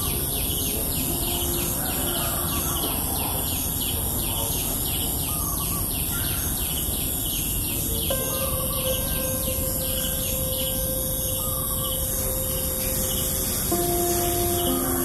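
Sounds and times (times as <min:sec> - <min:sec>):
steady multi-pitch tone: 0:00.0 - 0:05.2, 0:07.9 - 0:15.0
insect hiss: 0:00.0 - 0:15.0.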